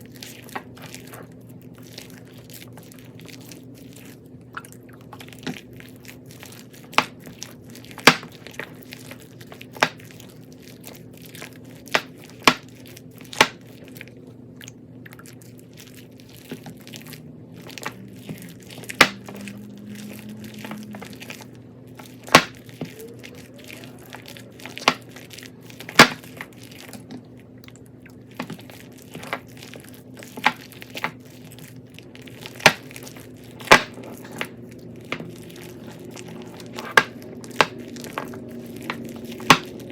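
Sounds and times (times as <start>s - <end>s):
crunchy slime crackling pops: 0.0s - 39.9s
low steady hum: 0.0s - 39.9s.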